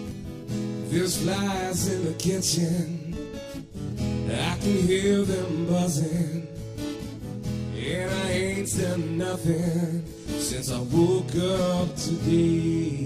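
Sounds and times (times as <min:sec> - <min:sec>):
country song with acoustic guitar: 0:00.0 - 0:13.0.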